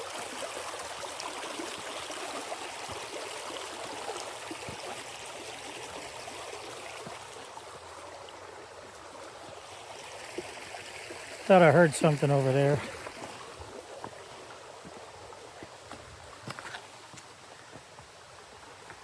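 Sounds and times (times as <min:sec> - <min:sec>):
creek flowing over rocks: 0:00.0 - 0:19.0.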